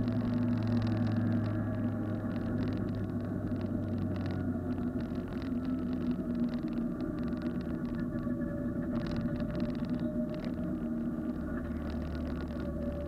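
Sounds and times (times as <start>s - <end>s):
car engine running: 0.0s - 13.0s
road noise: 0.0s - 13.0s.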